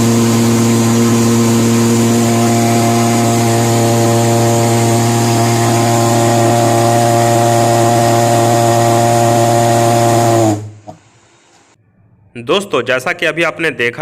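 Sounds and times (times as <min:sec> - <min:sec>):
pulse-jet engine running: 0:00.0 - 0:11.8.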